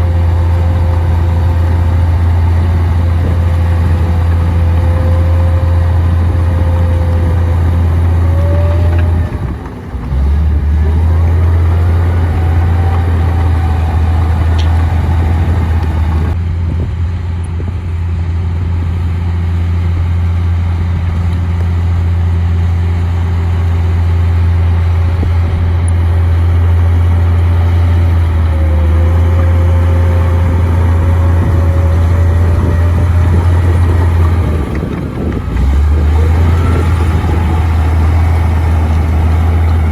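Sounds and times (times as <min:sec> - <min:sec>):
bulldozer diesel engine running: 0:00.0 - 0:39.9
wavering whine: 0:00.0 - 0:39.9.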